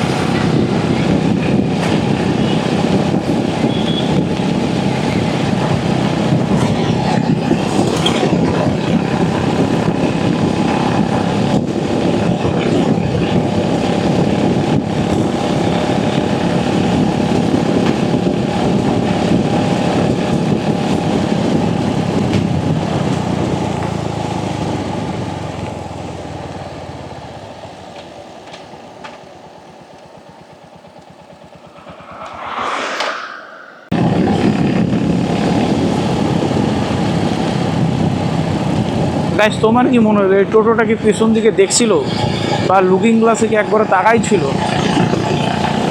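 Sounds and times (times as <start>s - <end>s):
road and wind noise: 0.0s - 45.9s.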